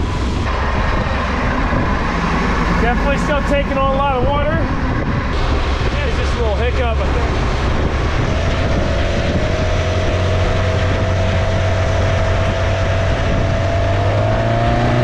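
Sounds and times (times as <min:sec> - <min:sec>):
boat engine running: 0:00.0 - 0:15.0
steady whine: 0:00.0 - 0:15.0
water splashing: 0:00.0 - 0:15.0
wind: 0:00.0 - 0:15.0.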